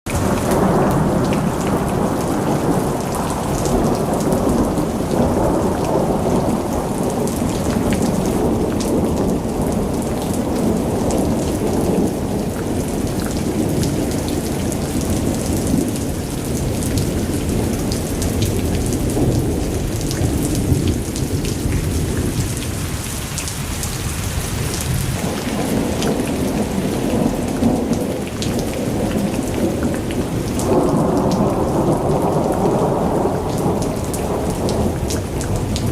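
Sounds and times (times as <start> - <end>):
heavy rain pouring: 0.0 - 35.9
deep rain rumble: 0.1 - 35.9
fine raindrop patter: 0.1 - 35.9.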